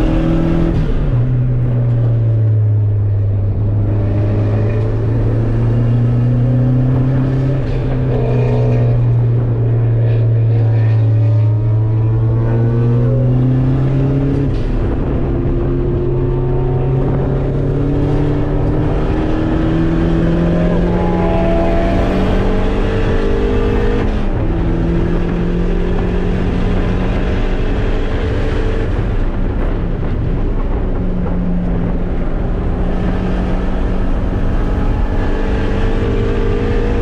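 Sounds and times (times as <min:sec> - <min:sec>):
car engine drone at speed: 0:00.0 - 0:37.0.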